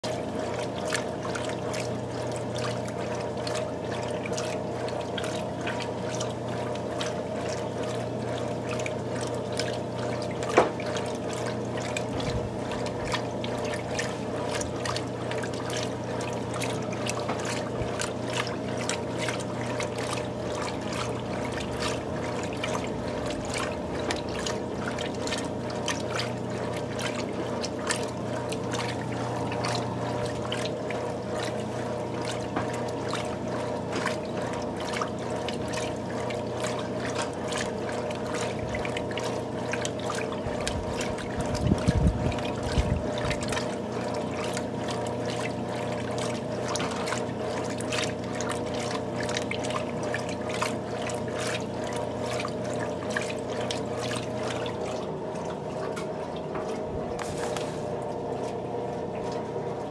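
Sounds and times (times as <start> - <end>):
washing machine motor hum: 0.0 - 59.9
washing machine sloshing water: 0.0 - 59.9.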